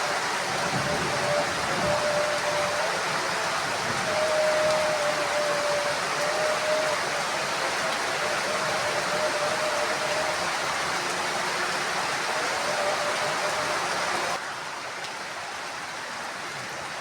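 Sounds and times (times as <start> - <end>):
heavy rain on roof: 0.0 - 17.0.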